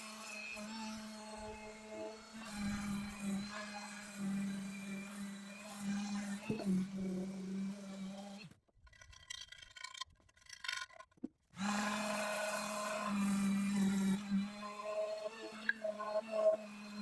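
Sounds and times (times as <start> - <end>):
electric sander on metal: 0.0 - 8.5, 11.6 - 17.0.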